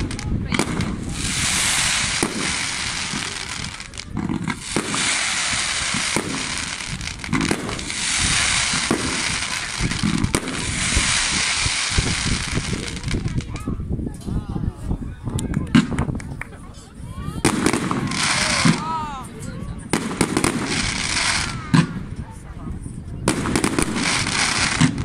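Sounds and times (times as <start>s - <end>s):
fireworks fountains hissing: 0.0s - 13.7s, 17.3s - 25.0s
fireworks bangs and crackles: 0.0s - 14.2s, 15.2s - 25.0s.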